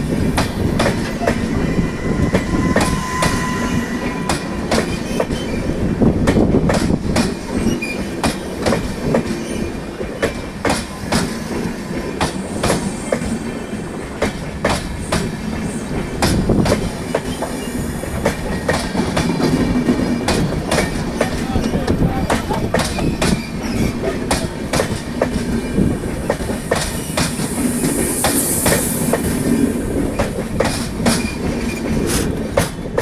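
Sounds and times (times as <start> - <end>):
train wheels clattering over rail joints: 4.3 - 33.0.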